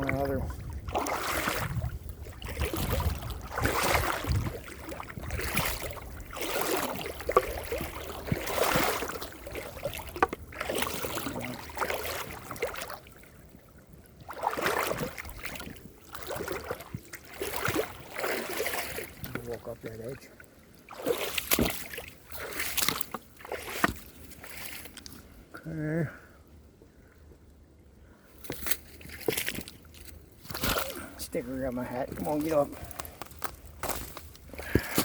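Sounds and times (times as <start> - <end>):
boots splashing through water: 0.0 - 13.5, 14.2 - 20.0, 20.8 - 25.1, 28.4 - 35.0.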